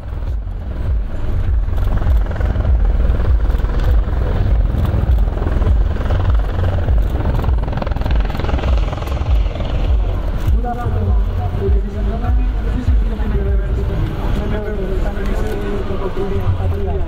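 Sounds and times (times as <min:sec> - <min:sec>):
helicopters hovering: 0:00.0 - 0:17.0
low rotor beat: 0:00.0 - 0:17.0.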